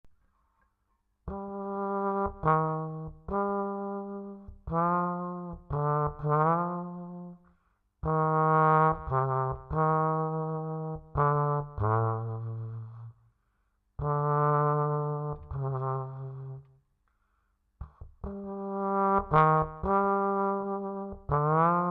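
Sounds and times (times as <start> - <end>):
solo brass melody: 1.3 - 13.2, 14.0 - 16.8, 18.2 - 21.9.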